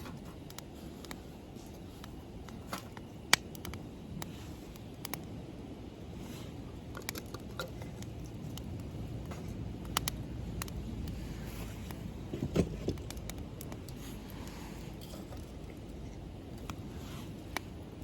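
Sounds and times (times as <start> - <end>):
low steady rumble: 0.0 - 18.0
wood fire crackling: 0.0 - 18.0.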